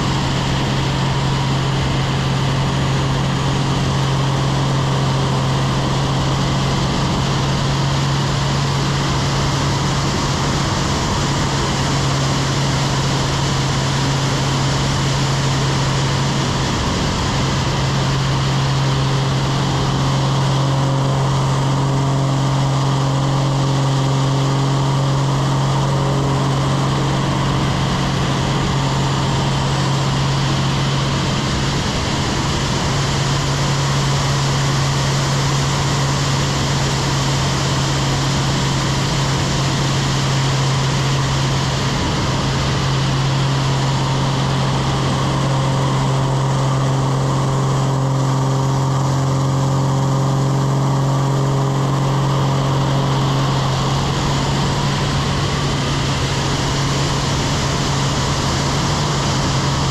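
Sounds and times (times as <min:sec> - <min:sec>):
propeller plane engine droning: 0:00.0 - 0:59.9
wind rush: 0:00.0 - 0:59.9.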